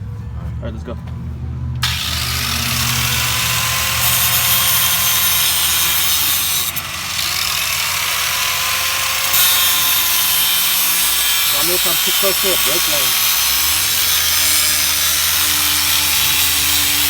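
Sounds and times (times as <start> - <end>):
angle grinder cutting steel: 1.8 - 17.0.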